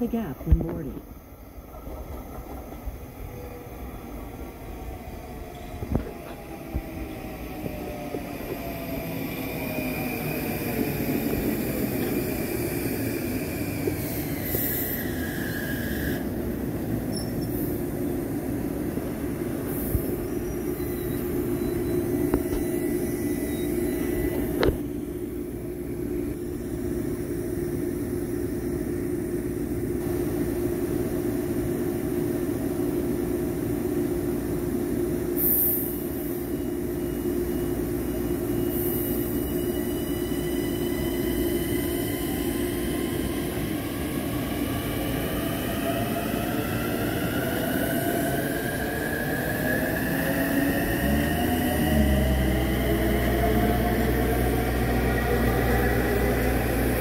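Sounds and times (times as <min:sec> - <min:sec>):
electric train motors whining: 0:00.6 - 0:27.8, 0:35.8 - 0:57.0.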